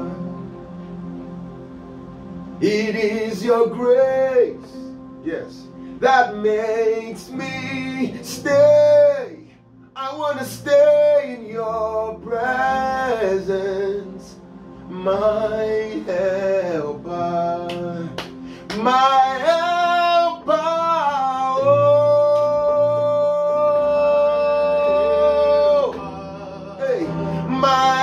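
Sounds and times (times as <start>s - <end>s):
man singing gospel: 0.0s - 0.8s, 2.6s - 28.0s
sustained keyboard chords: 0.0s - 28.0s.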